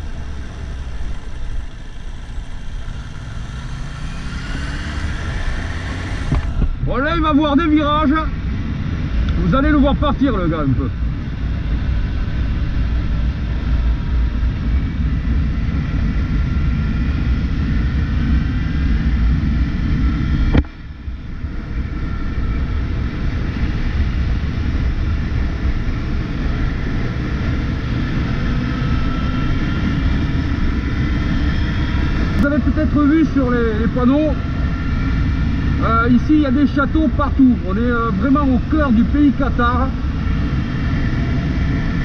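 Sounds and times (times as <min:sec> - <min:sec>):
motorcycle engine running: 0:00.0 - 0:42.0
road noise: 0:00.0 - 0:42.0
wind rushing over microphone: 0:00.0 - 0:42.0.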